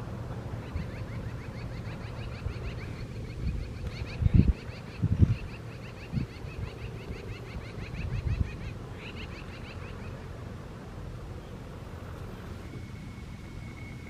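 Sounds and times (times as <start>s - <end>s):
bird chirping: 0.5s - 10.5s, 11.3s - 14.0s.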